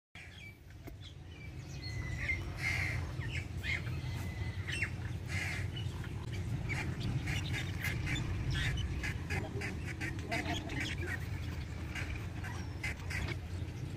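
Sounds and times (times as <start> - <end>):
birds chirping: 0.2 - 13.9
steady low rumble: 0.2 - 13.9.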